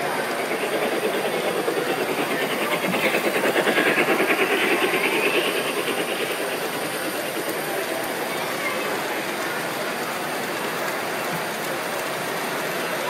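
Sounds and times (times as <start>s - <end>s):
model train clicking on track: 0.0s - 13.0s.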